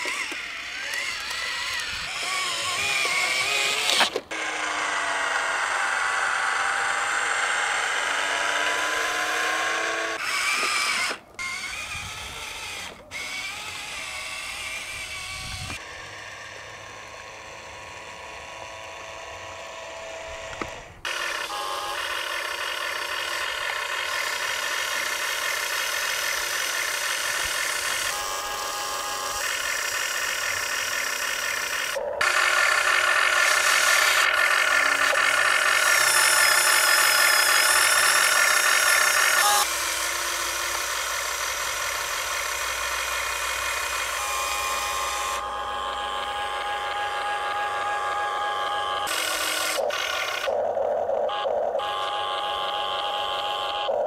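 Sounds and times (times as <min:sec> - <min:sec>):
small electric motors whining: 0:00.0 - 0:54.0.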